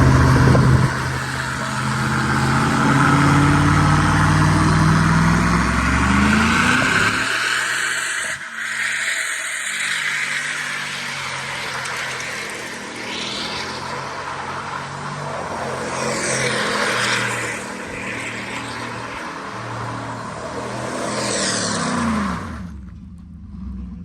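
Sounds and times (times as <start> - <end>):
truck engine revving: 0.0 - 9.1, 9.7 - 24.0
tyres screeching on pavement: 0.0 - 22.8.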